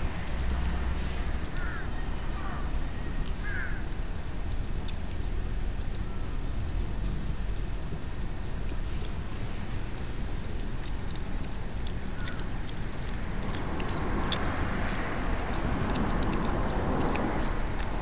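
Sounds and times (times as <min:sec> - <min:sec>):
dog chewing grass: 0:00.0 - 0:18.0
steady low rumble: 0:00.0 - 0:18.0.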